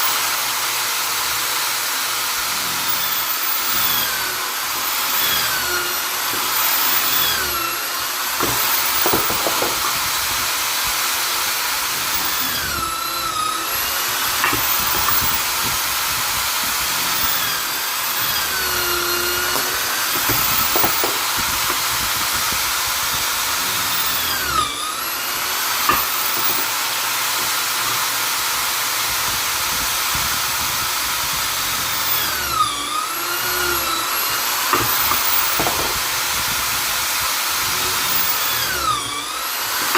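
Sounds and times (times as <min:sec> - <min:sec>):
drill running with whine: 0:00.0 - 0:39.9.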